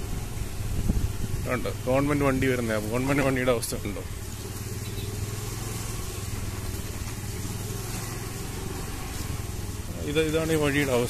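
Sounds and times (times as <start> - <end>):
small motorcycle engine running: 0.0 - 11.0
steady hiss: 0.0 - 11.0.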